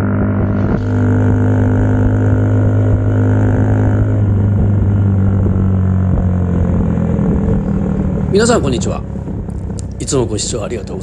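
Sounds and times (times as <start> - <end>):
moped engine drone: 0.0 - 11.0.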